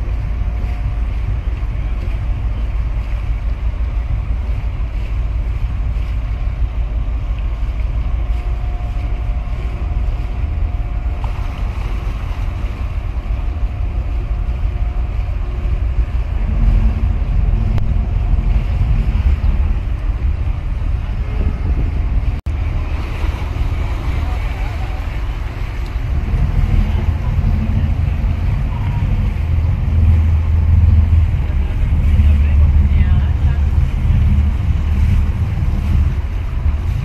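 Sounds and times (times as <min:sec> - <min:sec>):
faint ship engine hum: 0:00.0 - 0:37.0
wind buffeting microphone: 0:00.0 - 0:37.0.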